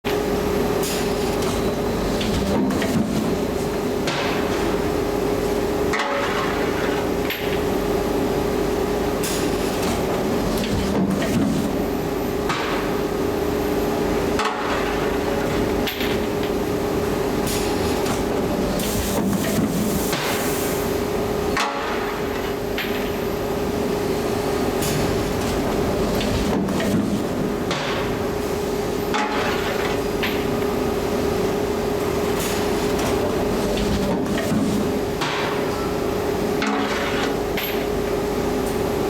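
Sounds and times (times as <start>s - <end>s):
machinery humming: 0.1s - 39.0s.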